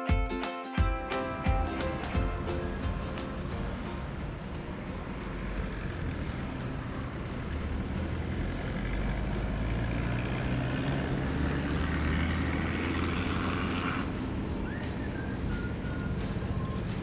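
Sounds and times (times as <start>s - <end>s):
vehicle engine rumble: 1.3s - 17.0s.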